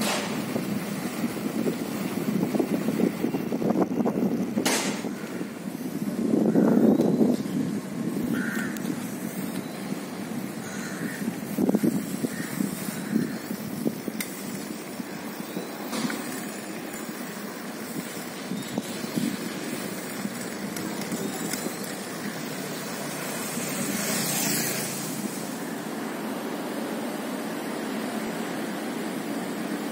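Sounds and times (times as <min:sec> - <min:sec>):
distant traffic hum: 0:00.0 - 0:29.9.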